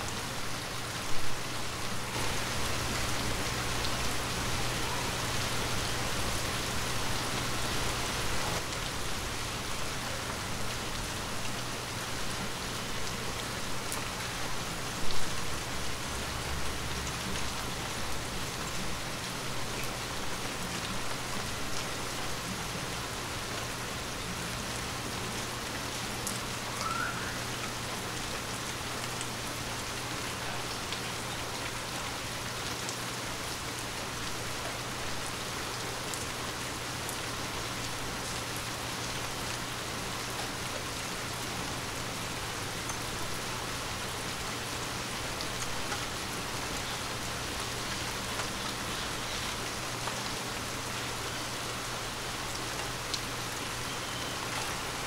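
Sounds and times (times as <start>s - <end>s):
rain on foliage: 0.0s - 55.0s.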